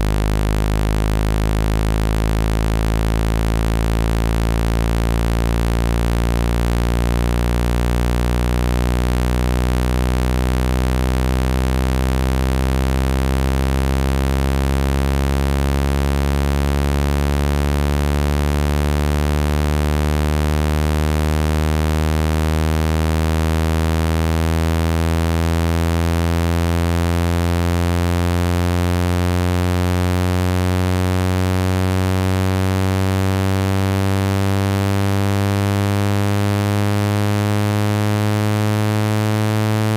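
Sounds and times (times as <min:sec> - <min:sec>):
low buzzing tone rising in pitch: 0:00.0 - 0:39.9.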